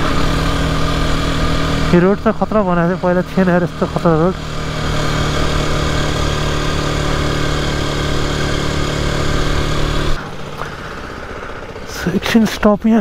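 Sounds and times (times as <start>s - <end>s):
dirt bike engine cruising: 0.0s - 13.0s
wind and road noise: 0.0s - 13.0s.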